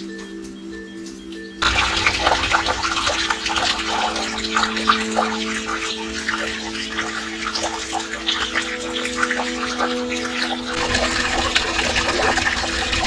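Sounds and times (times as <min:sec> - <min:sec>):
water splashing and running: 0:01.6 - 0:13.0.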